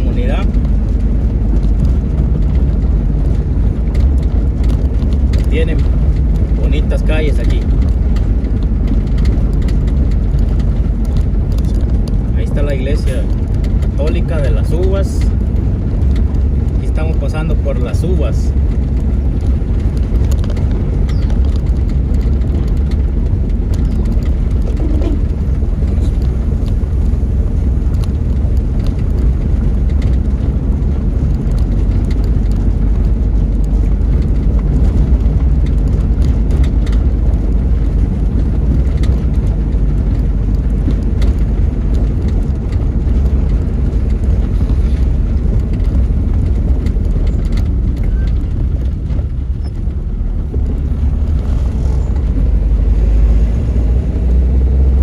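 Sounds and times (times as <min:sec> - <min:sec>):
vehicle engine and tyre noise: 0:00.0 - 0:55.0.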